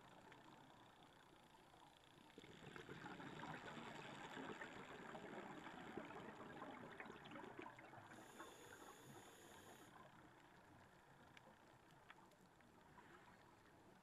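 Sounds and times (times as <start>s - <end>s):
underwater crackling and bubbling: 0.0s - 14.0s.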